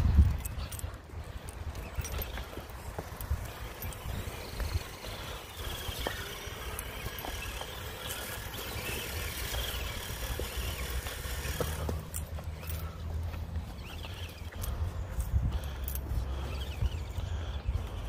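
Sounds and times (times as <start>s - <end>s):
tyres crunching: 0.0s - 18.0s
electric motors whining: 0.3s - 18.0s
footsteps in dry leaves: 1.3s - 18.0s.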